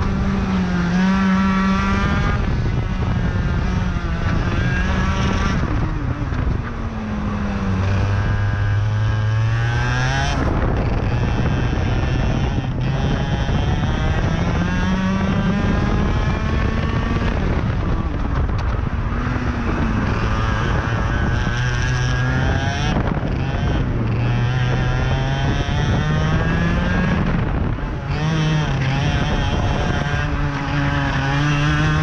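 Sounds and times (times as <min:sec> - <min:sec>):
kart engine at full throttle: 0:00.0 - 0:32.0
wind rushing over microphone: 0:00.0 - 0:32.0.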